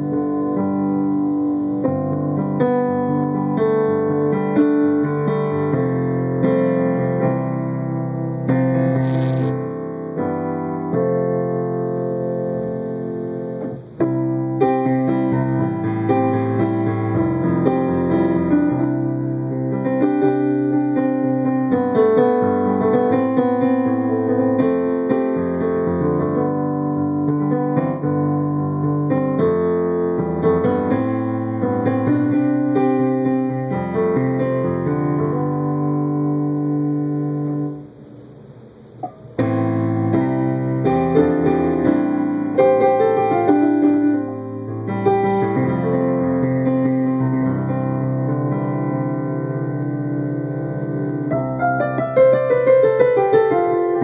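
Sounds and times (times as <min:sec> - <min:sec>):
keyboard playing chords and melody: 0:00.0 - 0:54.0.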